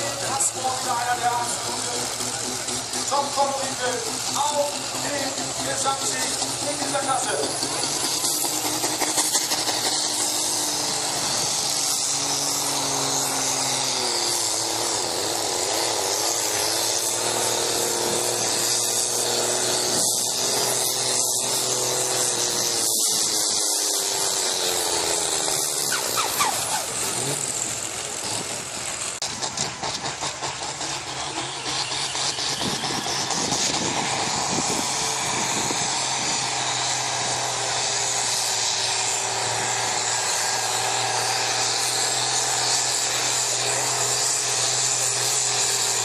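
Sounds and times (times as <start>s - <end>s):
tractor engine at high revs: 0.0s - 46.0s.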